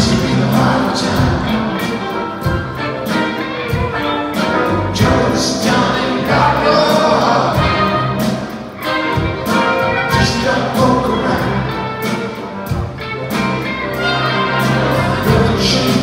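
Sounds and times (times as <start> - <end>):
drum kit beat: 0.0 - 16.0
rock band with orchestra playing: 0.0 - 16.0.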